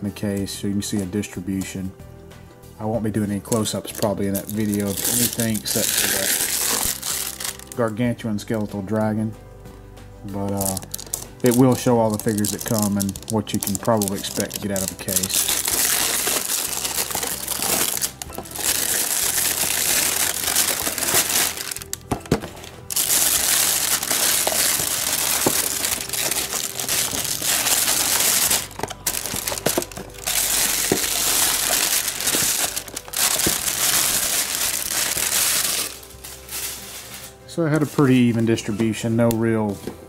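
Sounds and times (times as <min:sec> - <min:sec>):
plastic shrink wrap crinkling: 0:03.4 - 0:07.8, 0:10.3 - 0:38.4.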